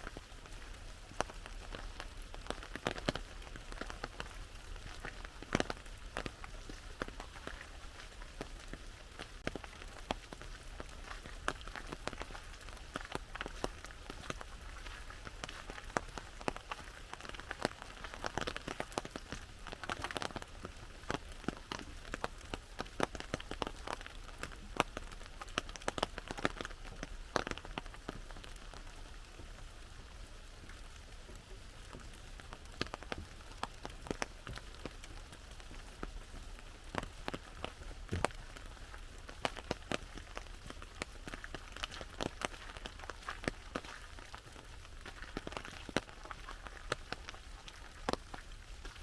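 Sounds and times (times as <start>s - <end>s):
raindrops tapping on umbrella: 0.0s - 49.0s
steady rain hiss: 0.0s - 49.0s.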